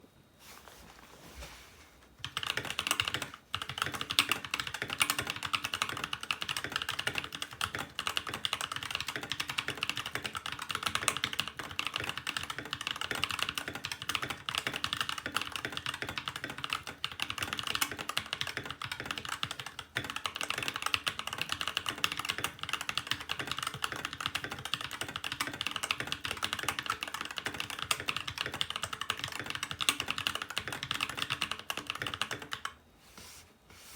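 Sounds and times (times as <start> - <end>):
mechanical keyboard typing: 2.2 - 32.8.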